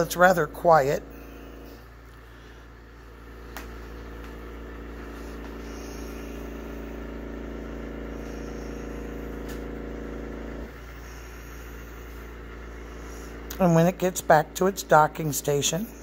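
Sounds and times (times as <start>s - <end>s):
robot vacuum motor hum: 0.0s - 14.9s.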